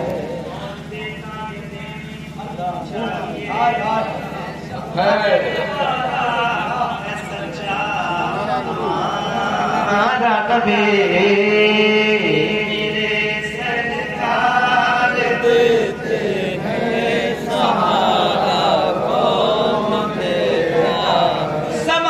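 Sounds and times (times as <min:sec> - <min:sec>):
man singing unaccompanied: 0:00.0 - 0:22.0.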